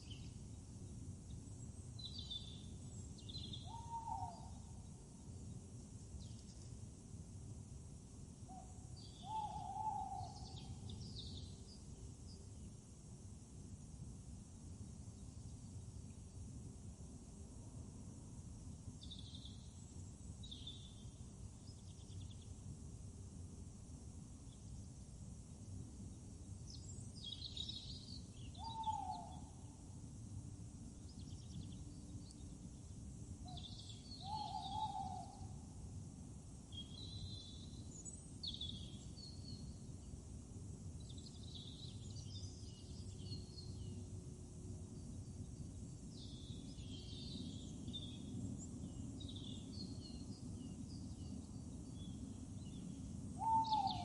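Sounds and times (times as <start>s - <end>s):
songbirds chirping: 0.0s - 22.8s, 23.7s - 54.0s.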